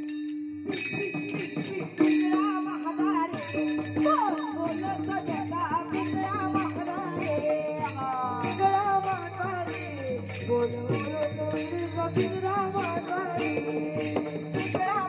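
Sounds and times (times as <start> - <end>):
hand cymbals clashing: 0.0 - 15.0.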